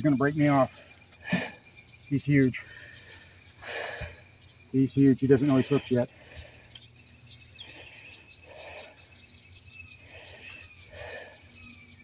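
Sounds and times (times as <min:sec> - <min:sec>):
faint birds calling: 0:00.0 - 0:12.0
insects calling: 0:00.0 - 0:12.0.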